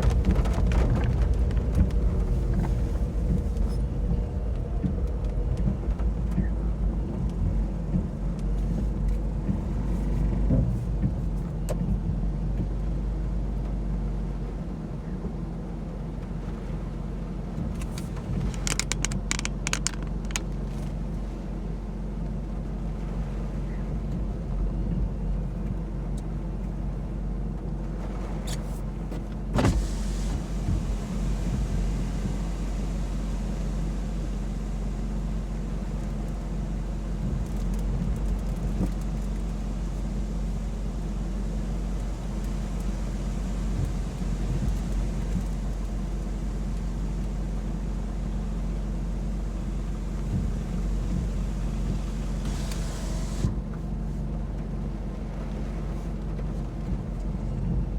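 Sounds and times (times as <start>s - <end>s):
low rumble of car driving: 0.0s - 57.9s.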